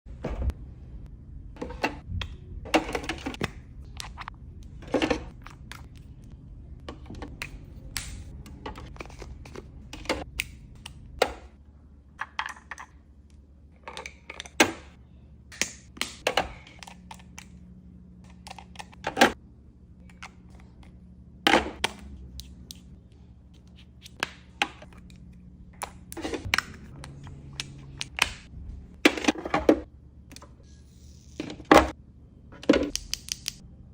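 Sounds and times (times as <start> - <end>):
faint low hum: 0.1 - 33.9.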